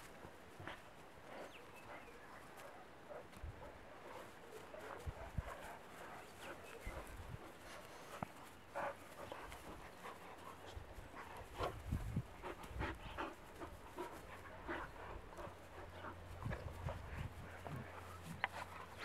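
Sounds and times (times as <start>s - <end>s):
puppies panting: 0.0s - 19.0s
puppies play-fighting: 0.0s - 19.0s.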